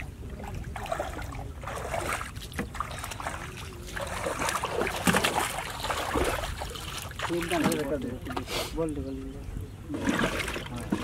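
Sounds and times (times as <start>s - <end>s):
water sloshing in boat: 0.0s - 11.0s.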